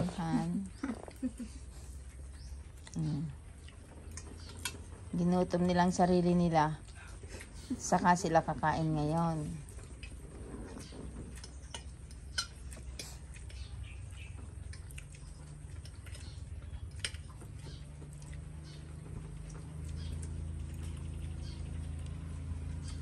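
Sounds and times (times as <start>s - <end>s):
chewing and slurping: 0.0s - 23.0s.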